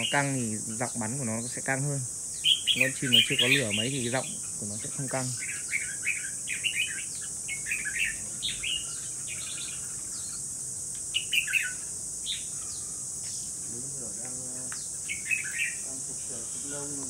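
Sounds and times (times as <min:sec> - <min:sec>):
bird singing warbled phrases: 0:00.0 - 0:17.0
high insect buzz: 0:00.0 - 0:17.0.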